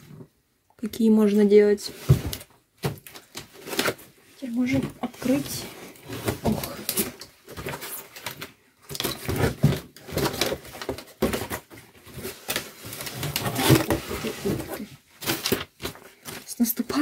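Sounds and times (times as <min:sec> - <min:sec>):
cardboard flaps rustling and scraping: 0:01.8 - 0:16.5.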